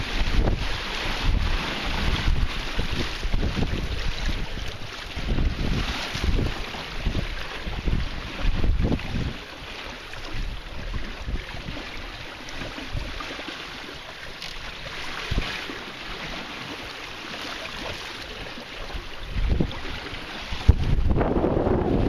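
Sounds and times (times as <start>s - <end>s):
wind buffeting microphone: 0.0s - 13.2s, 14.6s - 16.8s, 17.8s - 22.0s
water splashing along a hull: 0.0s - 22.0s.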